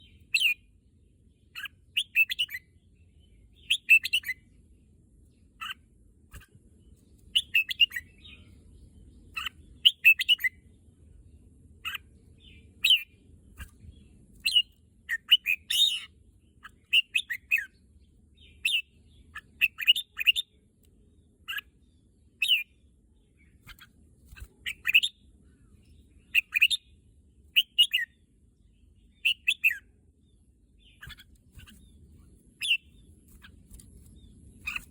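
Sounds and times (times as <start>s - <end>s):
bird singing warbled phrases: 0.0s - 34.9s.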